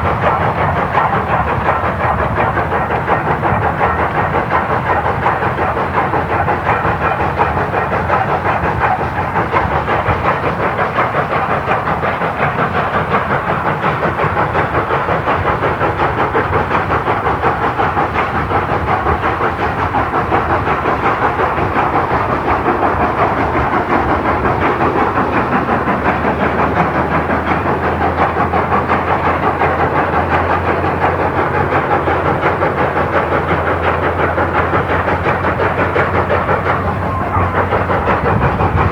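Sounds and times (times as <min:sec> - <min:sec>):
steam hissing: 0:00.0 - 0:38.9
steam locomotive exhaust beating: 0:00.0 - 0:38.9.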